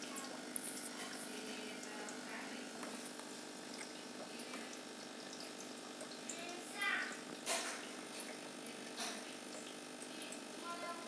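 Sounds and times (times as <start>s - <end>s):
aquarium pump humming: 0.0s - 11.0s
water trickling: 0.0s - 11.0s.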